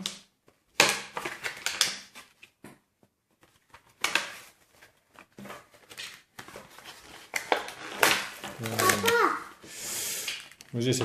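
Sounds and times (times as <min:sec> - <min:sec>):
plastic and cardboard rustling: 0:00.4 - 0:11.0.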